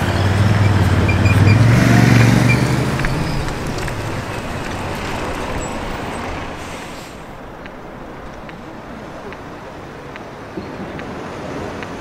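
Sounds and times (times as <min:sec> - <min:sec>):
diesel truck engine: 0:00.0 - 0:11.8
road and traffic rumble: 0:00.0 - 0:12.0.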